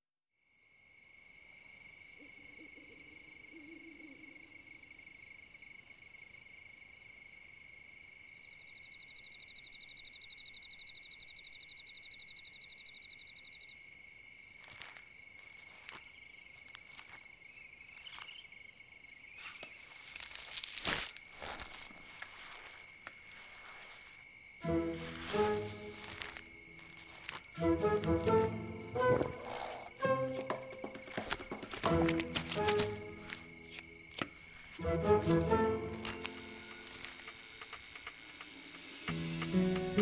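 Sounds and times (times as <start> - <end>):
insect chirping: 0.4 - 40.0
insects trilling: 0.9 - 40.0.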